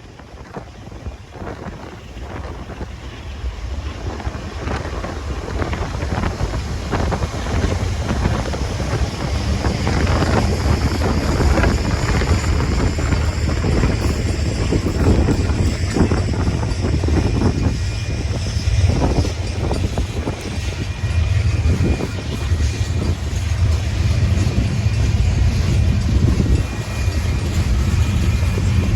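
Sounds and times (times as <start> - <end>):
clanks and knocks from train wheels: 0.0 - 28.9
freight train rumbling: 0.0 - 28.9
wind buffeting microphone: 0.0 - 28.9.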